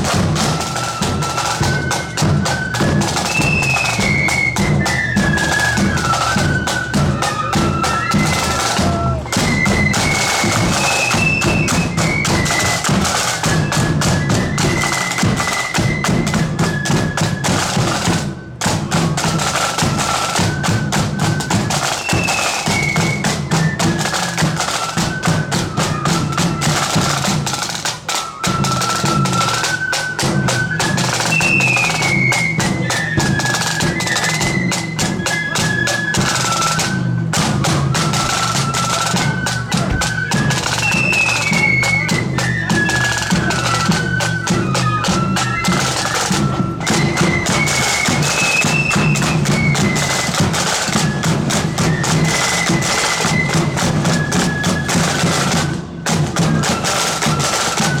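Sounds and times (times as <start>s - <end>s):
flutes playing high melody: 0.0s - 58.0s
snare drumming: 0.0s - 58.0s.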